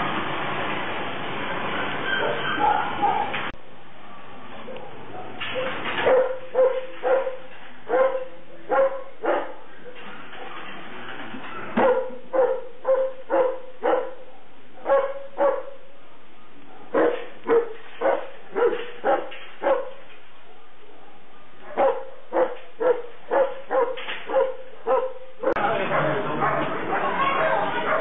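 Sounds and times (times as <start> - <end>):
dog barking: 2.2 - 3.5, 4.6 - 10.0, 11.7 - 28.0.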